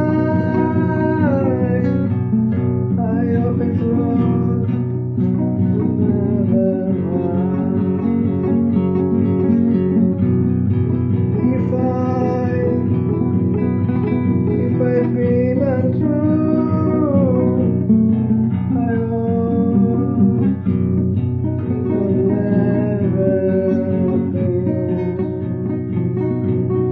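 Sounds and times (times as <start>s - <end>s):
acoustic guitar music: 0.0s - 26.9s.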